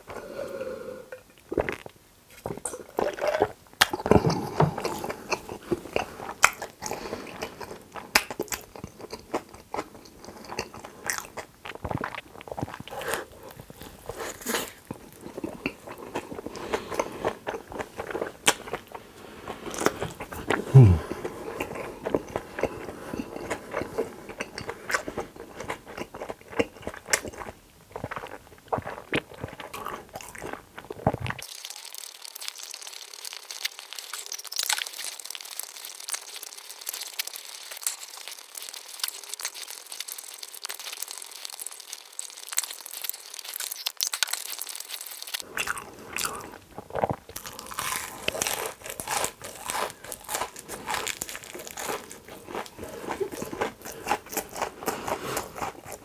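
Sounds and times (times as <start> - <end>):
crunchy chewing with mouth clicks: 1.1 - 56.0.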